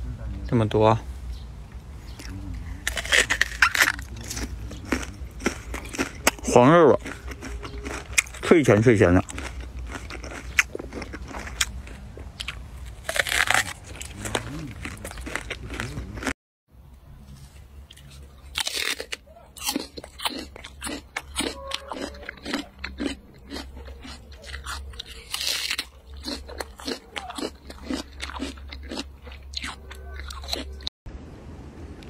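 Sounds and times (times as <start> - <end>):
crunching chews: 2.1 - 16.4, 17.8 - 30.9
crunchy bites of crisp fruit: 2.1 - 16.4, 17.7 - 30.9.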